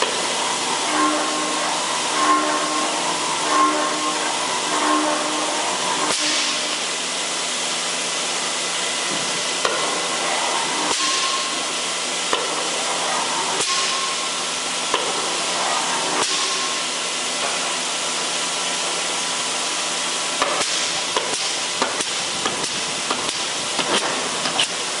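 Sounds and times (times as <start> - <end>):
motor and flywheel hum: 0.0 - 25.0.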